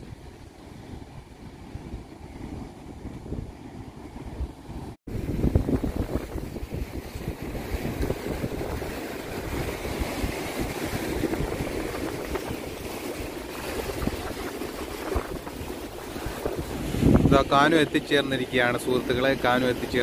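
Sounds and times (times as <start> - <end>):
waves breaking on shore: 0.0 - 20.0
wind buffeting microphone: 0.0 - 20.0.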